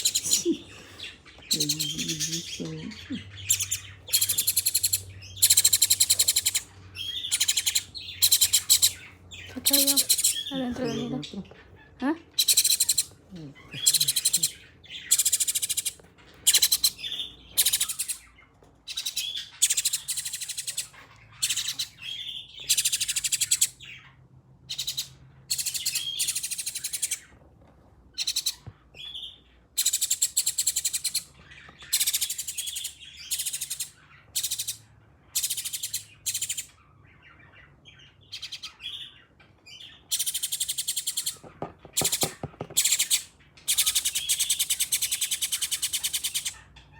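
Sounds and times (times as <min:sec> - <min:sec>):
nestling birds begging calls: 0:00.0 - 0:27.3, 0:28.2 - 0:46.9.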